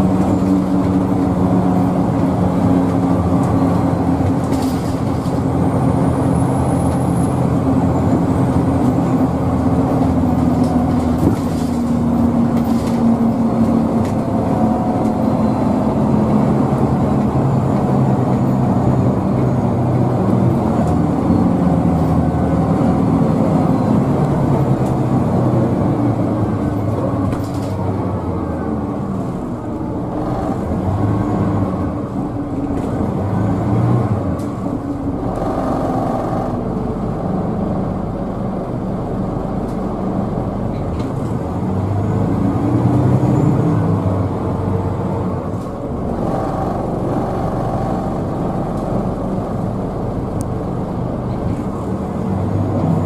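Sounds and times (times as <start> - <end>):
bus engine accelerating through gears: 0.0 - 53.0
road noise: 0.0 - 53.0.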